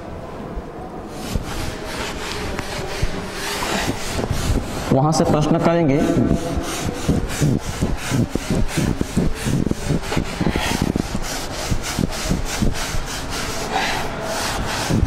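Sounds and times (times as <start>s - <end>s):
duster wiping chalkboard: 1.1s - 15.0s.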